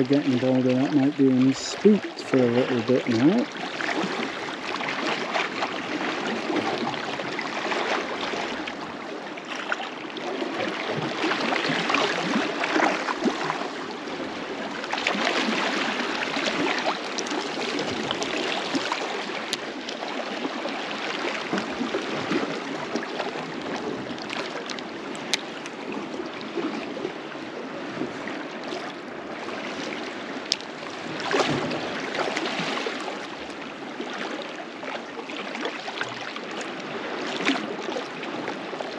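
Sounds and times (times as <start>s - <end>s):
waves lapping against rocks: 0.0s - 38.9s.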